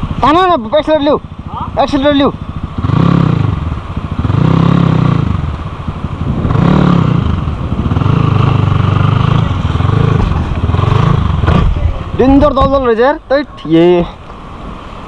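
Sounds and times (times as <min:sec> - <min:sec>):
dirt bike engine revving: 0:00.1 - 0:12.7.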